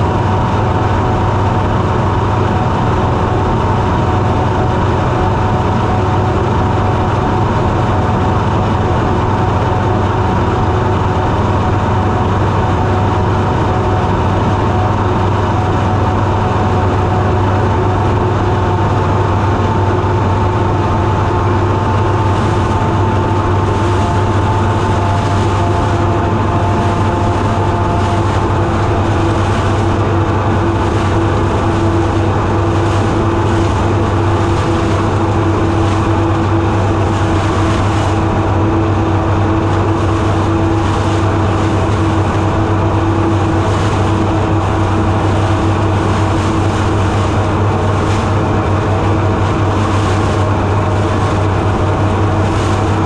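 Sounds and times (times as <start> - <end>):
combine harvester droning: 0.0 - 53.0.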